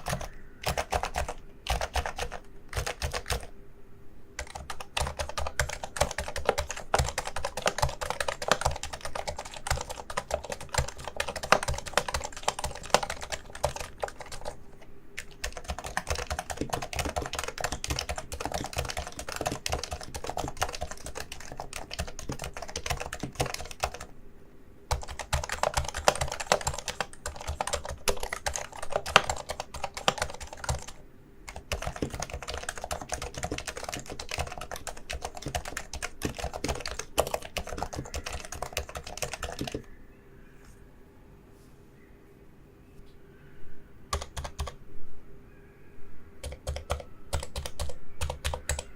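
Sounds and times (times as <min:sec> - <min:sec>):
fast keyboard typing: 0:00.0 - 0:03.5, 0:04.4 - 0:24.1, 0:24.9 - 0:39.9, 0:44.1 - 0:44.8, 0:46.4 - 0:48.9.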